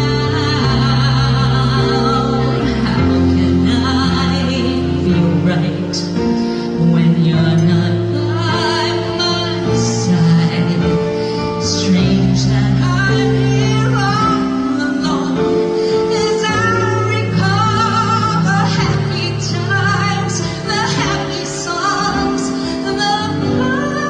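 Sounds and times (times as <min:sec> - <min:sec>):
woman singing a slow ballad: 0:00.0 - 0:24.0.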